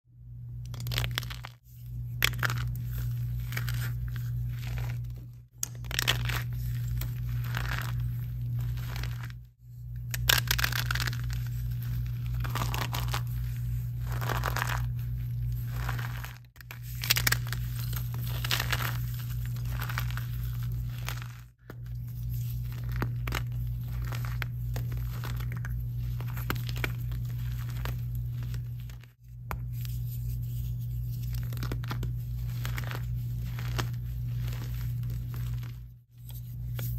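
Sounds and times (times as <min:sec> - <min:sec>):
steady low hum: 0:00.1 - 0:36.9.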